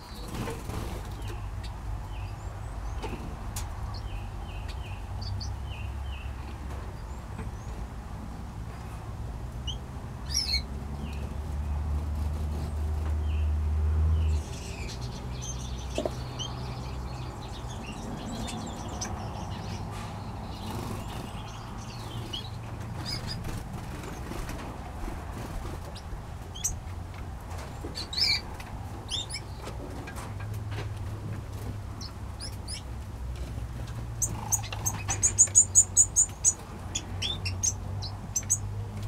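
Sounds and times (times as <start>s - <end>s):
birds chirping: 0.0s - 7.9s, 9.6s - 11.8s, 12.5s - 26.9s, 27.6s - 39.0s.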